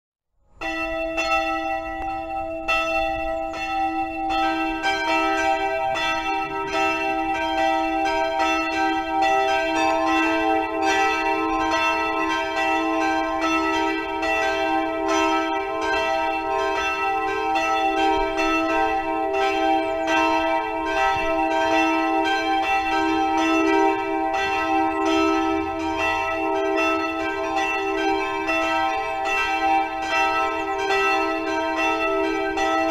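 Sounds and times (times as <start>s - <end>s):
church bells ringing: 0.6s - 32.9s.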